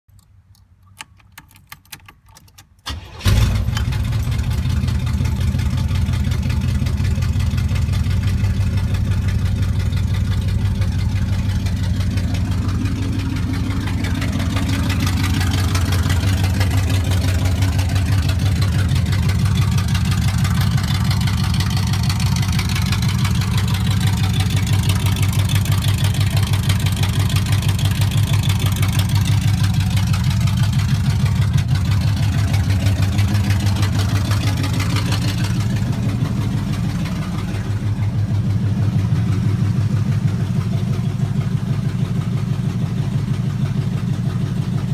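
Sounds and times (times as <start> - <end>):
engine cranking with clicks: 0.1 - 44.9
car engine idling: 2.9 - 44.9.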